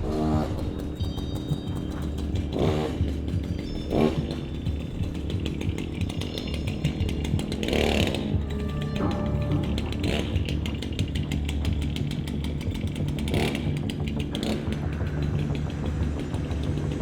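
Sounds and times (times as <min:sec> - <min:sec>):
chainsaw engine revving: 0:00.0 - 0:01.0, 0:02.0 - 0:17.0.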